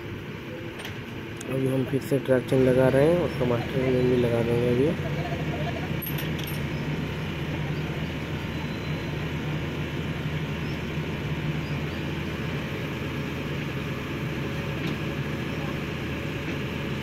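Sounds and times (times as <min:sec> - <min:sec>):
excavator diesel engine drone: 0:00.0 - 0:17.0.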